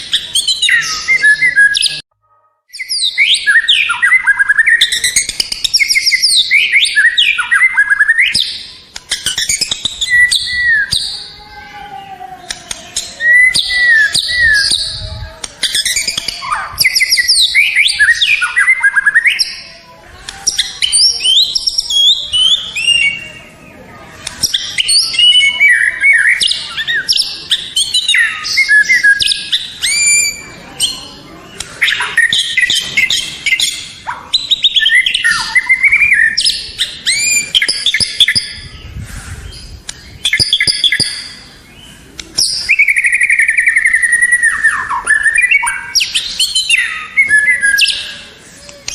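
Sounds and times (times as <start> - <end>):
songbird whistling and trilling: 0.0 - 2.0, 2.7 - 11.3, 12.9 - 19.6, 24.3 - 31.0, 31.8 - 48.9.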